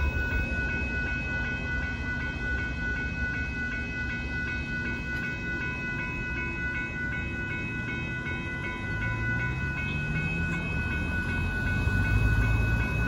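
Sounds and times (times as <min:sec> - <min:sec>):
crossing bell ringing: 0:00.0 - 0:13.0
freight train rumbling: 0:00.0 - 0:13.0.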